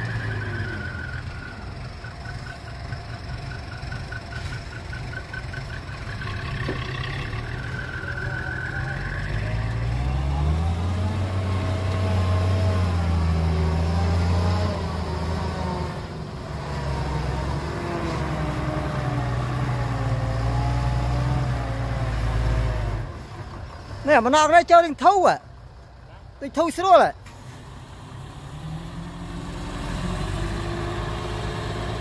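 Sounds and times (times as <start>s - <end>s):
truck diesel engine under load: 0.0s - 32.0s.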